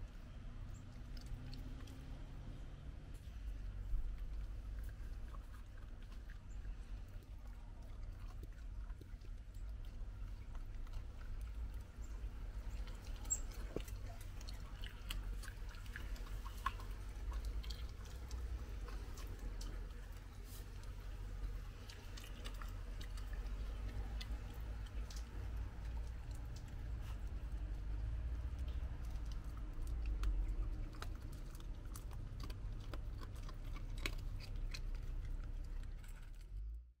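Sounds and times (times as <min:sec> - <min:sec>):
raccoon chewing crunchily: 0:00.0 - 0:36.9
low steady rumble: 0:00.0 - 0:37.0.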